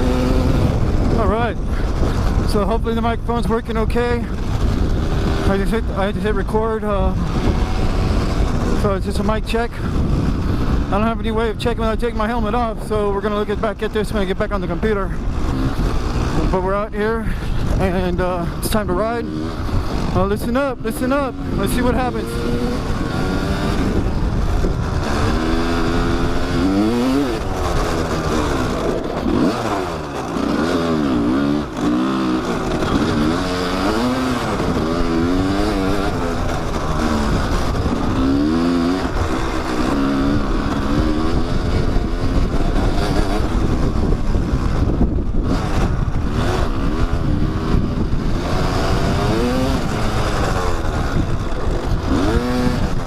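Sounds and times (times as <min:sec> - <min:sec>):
dirt bike engine revving: 0:00.0 - 0:53.0
wind noise: 0:00.0 - 0:53.0.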